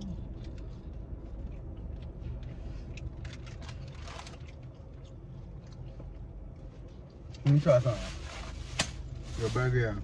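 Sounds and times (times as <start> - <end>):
low car cabin hum: 0.0 - 10.0.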